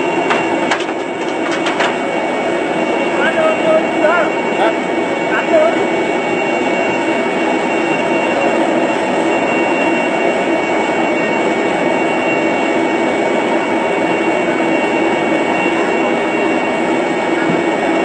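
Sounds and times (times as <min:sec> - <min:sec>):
airliner turbine noise: 0:00.0 - 0:18.0.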